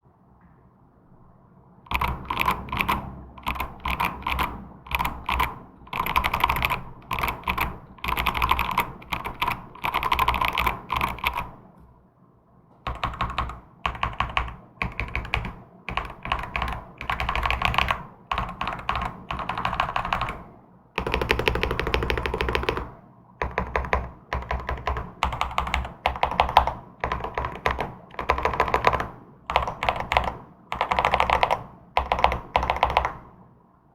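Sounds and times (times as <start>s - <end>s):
typing on a mechanical keyboard: 1.9s - 11.6s, 12.8s - 33.3s.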